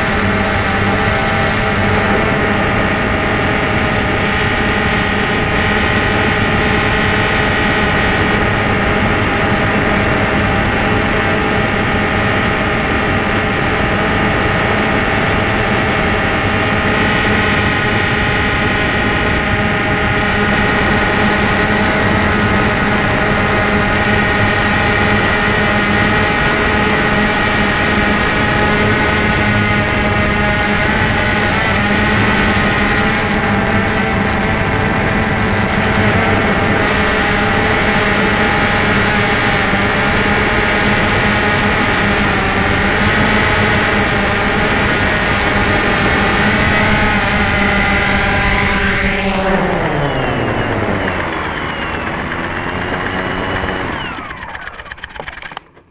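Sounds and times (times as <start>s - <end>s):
drone motors whining: 0.0s - 55.9s.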